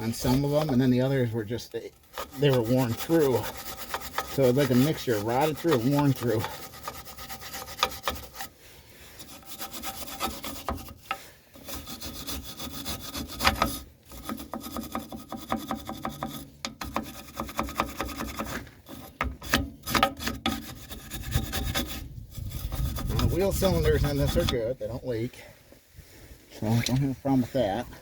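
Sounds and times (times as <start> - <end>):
scrubbing rust off steel: 0.0 - 24.8.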